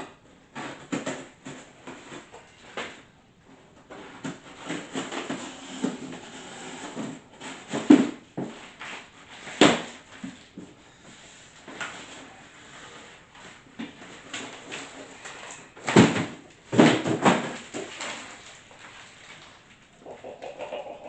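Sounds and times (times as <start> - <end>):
cardboard and packing rustling: 0.4 - 20.0.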